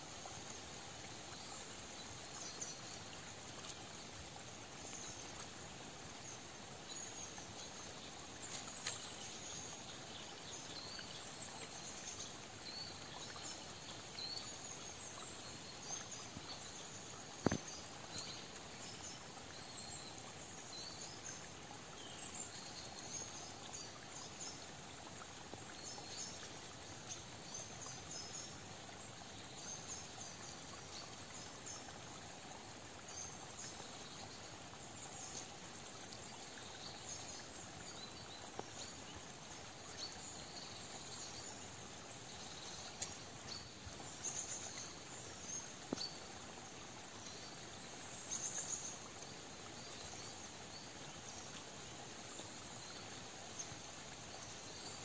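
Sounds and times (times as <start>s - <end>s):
steady soft hiss: 0.0s - 55.0s.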